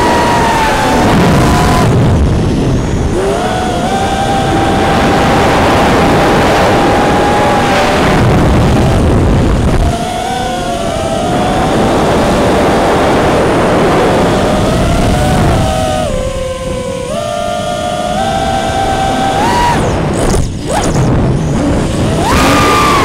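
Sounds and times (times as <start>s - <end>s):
heavy rushing noise: 0.0s - 23.0s
quadcopter motors whining: 0.0s - 23.0s.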